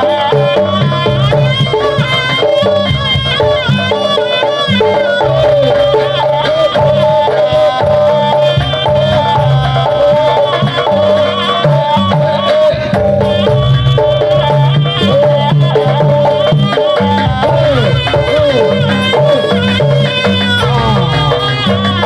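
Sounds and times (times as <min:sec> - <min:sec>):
ornamented lead melody: 0:00.0 - 0:22.0
steady drumming: 0:00.0 - 0:22.0.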